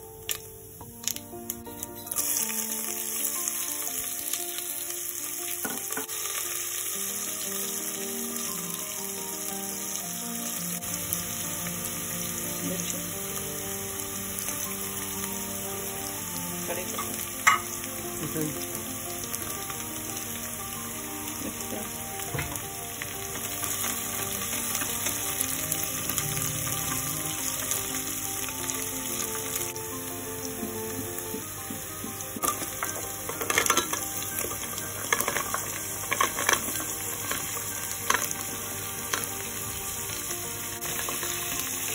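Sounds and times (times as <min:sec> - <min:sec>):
oil sizzling in a pan: 0:00.0 - 0:41.9.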